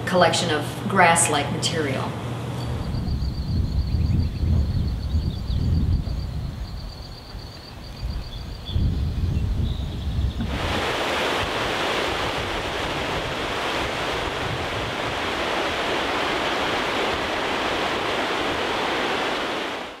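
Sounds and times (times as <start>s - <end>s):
wind rumbling on microphone: 2.6s - 20.0s.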